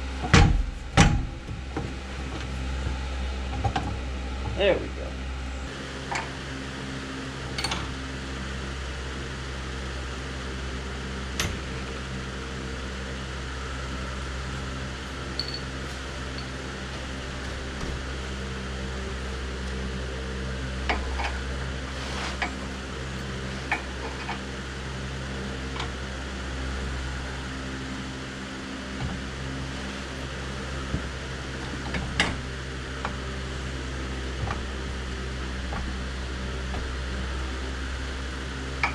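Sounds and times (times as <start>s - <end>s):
electric motor hum: 0.0s - 38.9s.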